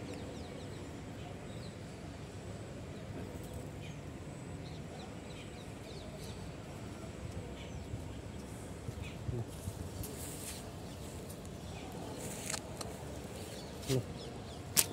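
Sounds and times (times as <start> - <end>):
small birds chirping: 2.9 - 14.9.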